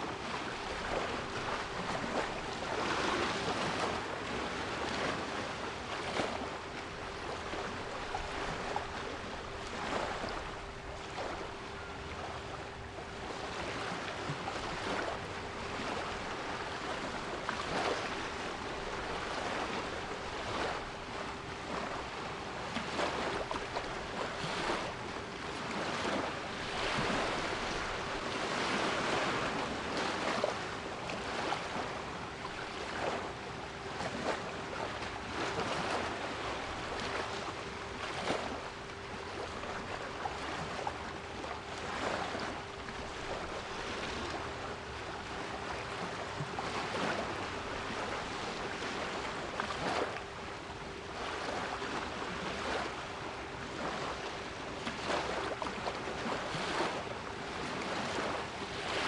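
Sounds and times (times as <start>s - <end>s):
sea waves washing: 0.0s - 33.4s, 34.0s - 59.0s.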